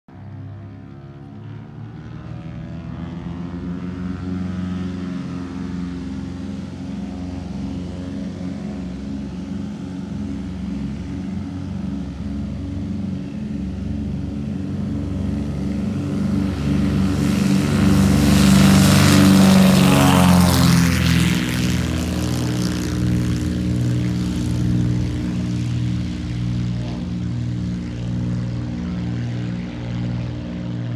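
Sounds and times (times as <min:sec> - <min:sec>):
propeller aircraft engines drone: 0:00.1 - 0:30.9
rushing propeller noise: 0:00.7 - 0:30.9.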